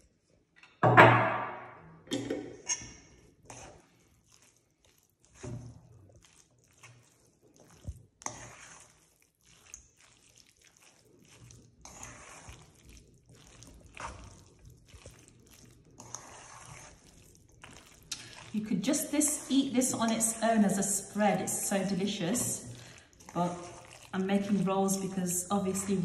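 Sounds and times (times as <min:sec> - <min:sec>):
spoon stirring in steel bowl: 0:02.4 - 0:26.0.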